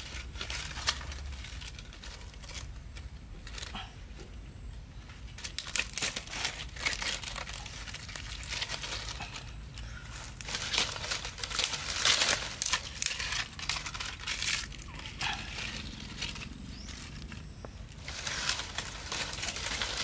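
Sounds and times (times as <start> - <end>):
dry leaves and twigs crunching: 0.0 - 4.0, 5.0 - 20.0.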